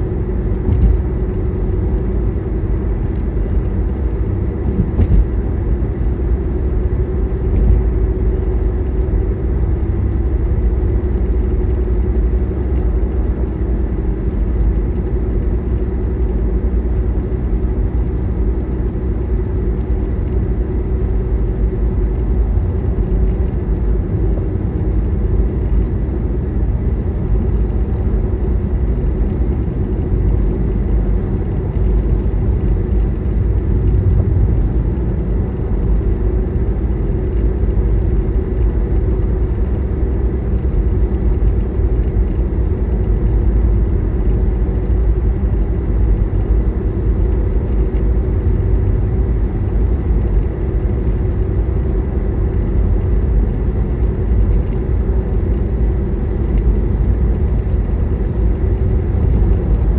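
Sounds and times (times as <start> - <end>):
faint engine hum: 0.0 - 59.9
tyres rumbling on asphalt: 0.0 - 59.9.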